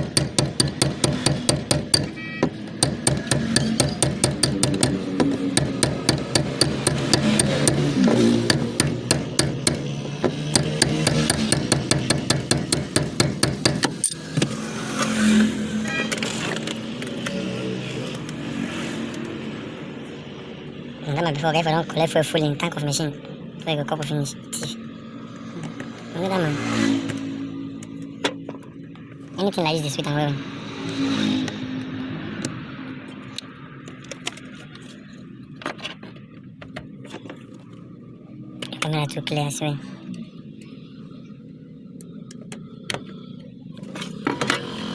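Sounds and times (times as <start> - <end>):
vehicle engine hum: 0.0 - 44.9.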